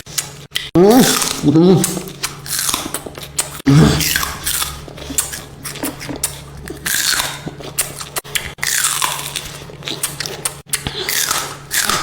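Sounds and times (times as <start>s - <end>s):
crunchy food being chewed: 0.0s - 12.0s.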